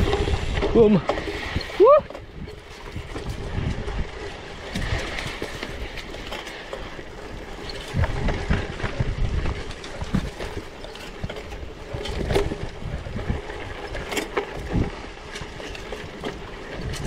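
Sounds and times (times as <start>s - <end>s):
bike knocking and rattling: 0.0s - 17.0s
tyres crunching on stones: 0.0s - 17.0s.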